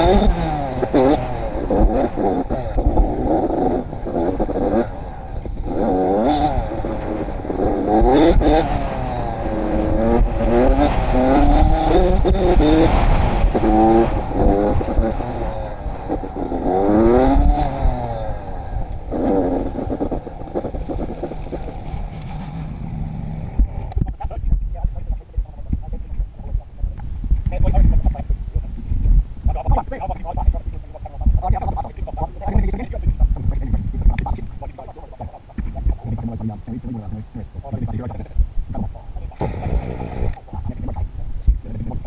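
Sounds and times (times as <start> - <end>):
dirt bike engine revving: 0.0 - 24.0, 29.4 - 41.0
rattling over rough trail: 0.0 - 42.0
wind rush: 0.0 - 42.0.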